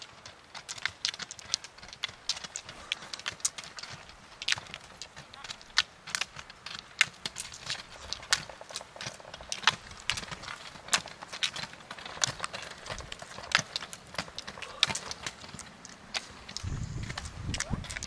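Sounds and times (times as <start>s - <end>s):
ski pole tips striking asphalt: 0.0s - 18.0s.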